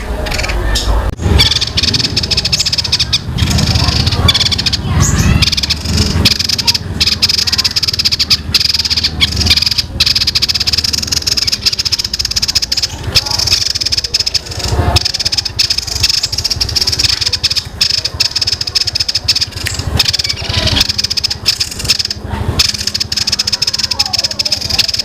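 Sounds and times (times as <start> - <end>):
songbird rattling trill: 1.2 - 25.0.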